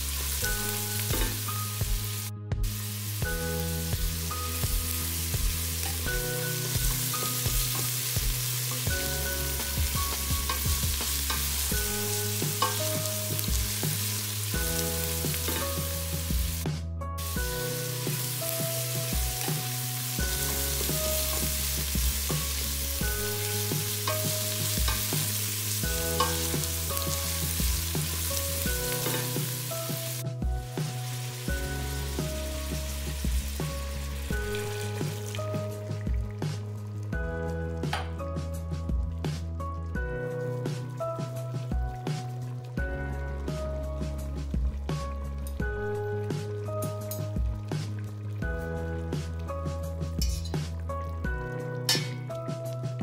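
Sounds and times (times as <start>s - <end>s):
meat sizzling in a pot: 0.0s - 38.2s, 38.9s - 53.0s
background music with bass line: 0.0s - 53.0s.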